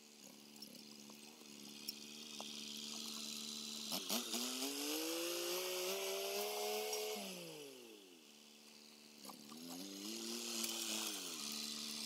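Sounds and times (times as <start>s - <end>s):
tractor engine running and revving: 0.0s - 12.0s.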